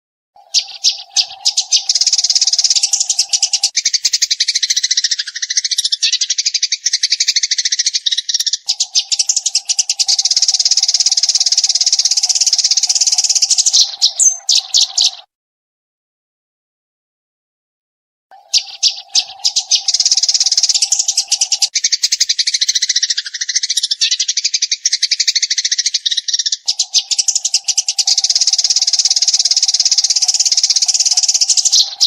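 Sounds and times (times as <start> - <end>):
sparrow chirping rapidly: 0.4 - 15.3, 18.3 - 32.0.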